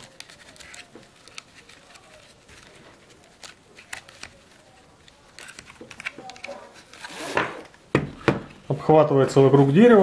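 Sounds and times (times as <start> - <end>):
clicks and scrapes on plastic: 0.0 - 8.5
nylon strap rustling: 0.0 - 10.0.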